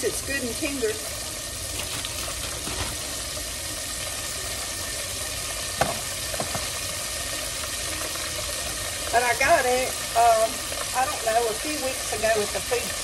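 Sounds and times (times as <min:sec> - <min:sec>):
hot oil sizzling in a pot: 0:00.0 - 0:13.0.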